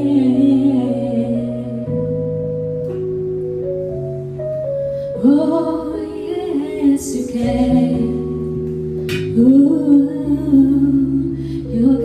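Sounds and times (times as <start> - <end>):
instrumental backing track: 0.0 - 12.0.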